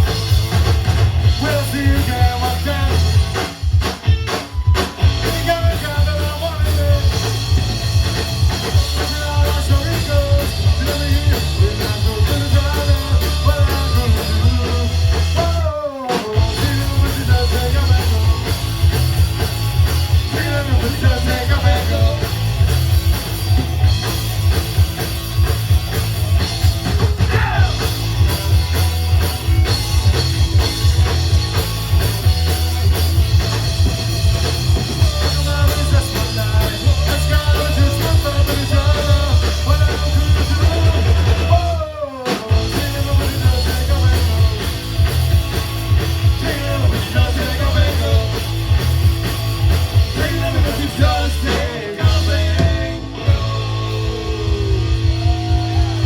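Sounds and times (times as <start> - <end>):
punk rock band playing live: 0.0 - 56.0.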